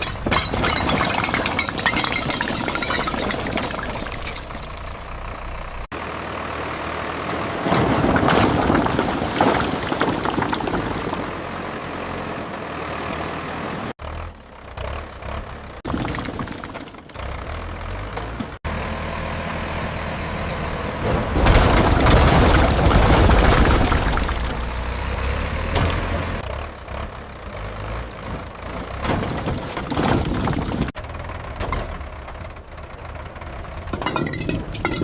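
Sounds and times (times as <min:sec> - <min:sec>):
tractor engines running: 0:00.0 - 0:35.0.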